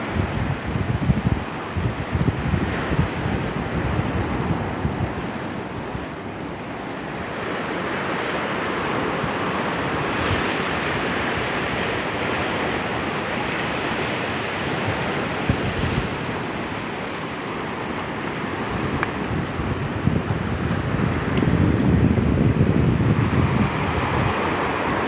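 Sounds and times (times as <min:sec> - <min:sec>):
ocean surf on rocky shore: 0:00.0 - 0:25.0
wind buffeting microphone: 0:00.0 - 0:25.0.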